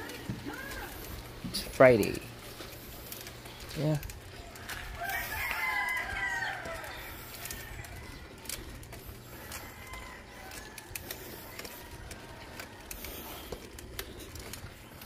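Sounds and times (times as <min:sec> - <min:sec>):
bicycle riding and wind noise: 0:00.0 - 0:15.0.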